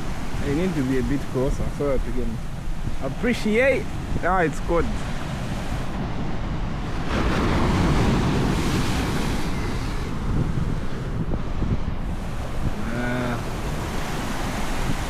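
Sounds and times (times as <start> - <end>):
wave breaking and washing in: 0.0 - 15.0
wind buffeting microphone: 0.0 - 15.0.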